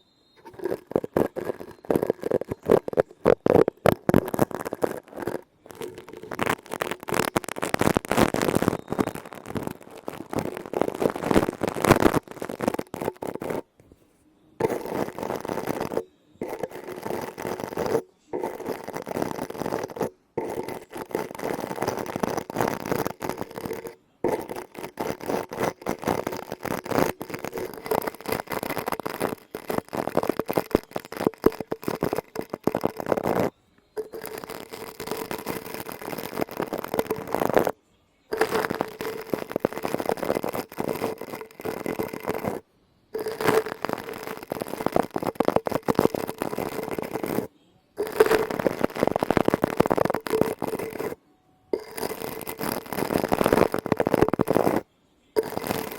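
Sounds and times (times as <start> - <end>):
scratching and tapping on objects: 0.4 - 42.6, 43.2 - 51.2, 51.8 - 55.9.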